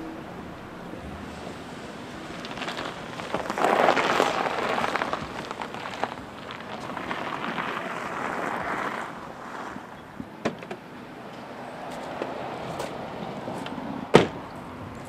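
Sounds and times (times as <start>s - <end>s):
tyres crunching on gravel: 0.0s - 15.0s.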